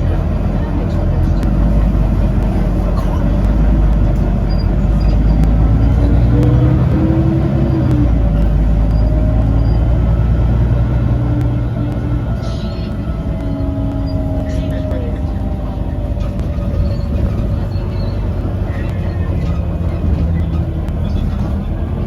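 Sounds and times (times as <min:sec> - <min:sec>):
bus engine rumble: 0:00.0 - 0:22.0.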